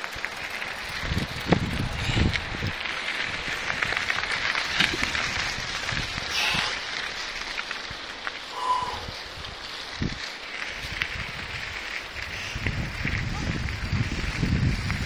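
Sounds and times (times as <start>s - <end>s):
bike rattling: 0.0s - 15.0s
bike tyres crunching on gravel: 0.0s - 15.0s.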